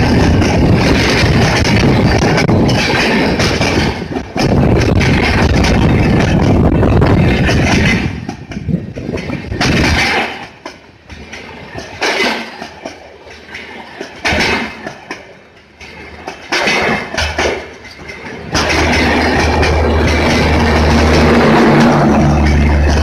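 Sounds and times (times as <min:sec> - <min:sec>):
train wheel rumble: 0:00.0 - 0:23.0
wheels clattering over rails: 0:00.0 - 0:23.0.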